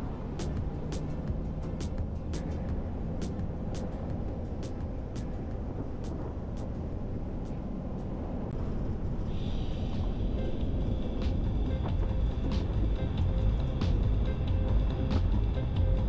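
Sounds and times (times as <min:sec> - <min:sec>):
vehicle road and engine rumble: 0:00.0 - 0:16.0.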